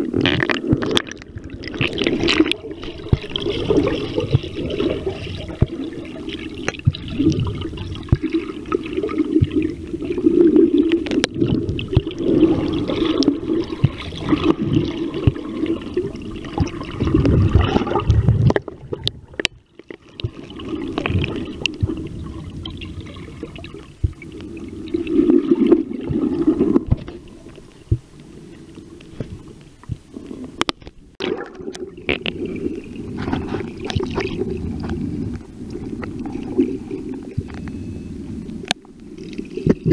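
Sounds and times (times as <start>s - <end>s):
underwater sloshing and gurgling: 0.0s - 39.9s.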